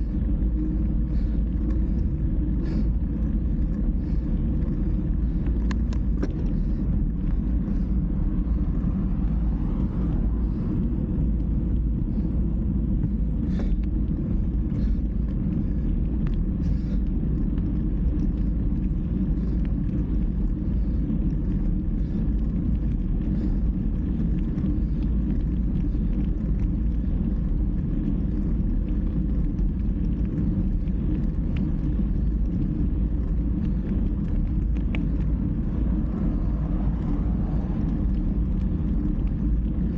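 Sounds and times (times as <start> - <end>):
faint clicks and ticks: 0.0 - 39.9
wind and road noise: 0.0 - 39.9.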